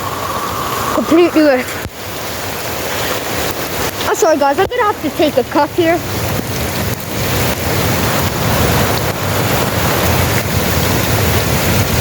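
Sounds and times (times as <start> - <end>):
heavy rain pouring: 0.0 - 12.0
wind rumbling on microphone: 0.0 - 12.0.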